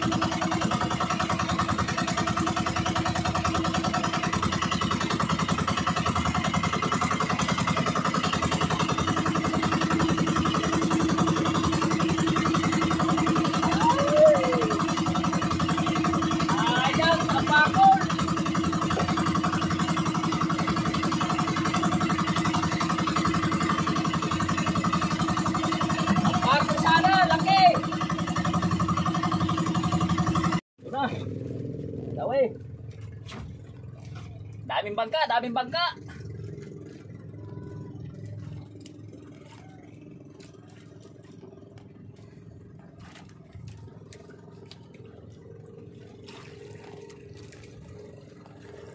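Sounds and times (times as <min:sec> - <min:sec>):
boat engine throbbing: 0:00.0 - 0:48.9.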